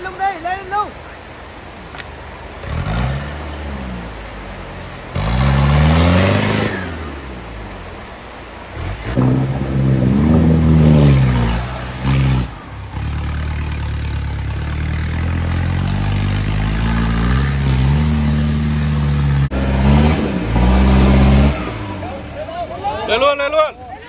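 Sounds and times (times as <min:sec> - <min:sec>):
off-road vehicle engine revving: 0:01.2 - 0:23.8.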